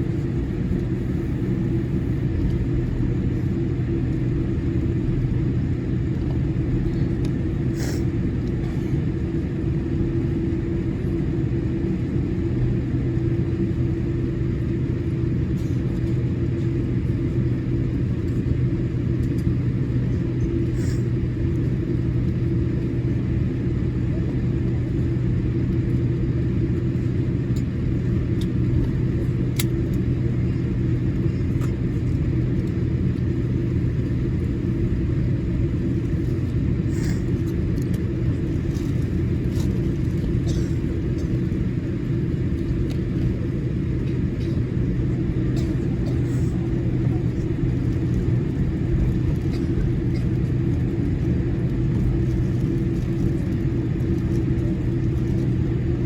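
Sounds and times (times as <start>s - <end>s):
aircraft cabin rumble: 0.0s - 56.0s
steady hum: 0.0s - 56.0s.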